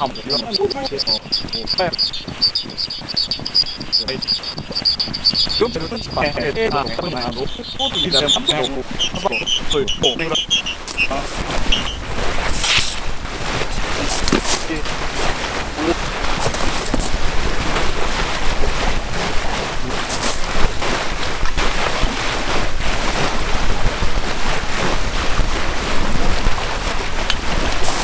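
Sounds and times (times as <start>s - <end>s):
waves lapping on pebbles: 0.0s - 28.0s
wind buffeting microphone: 0.0s - 28.0s.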